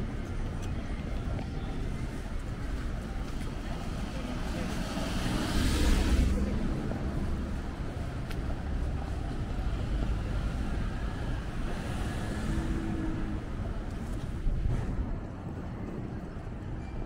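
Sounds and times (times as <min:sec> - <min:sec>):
road traffic rumble: 0:00.0 - 0:16.8.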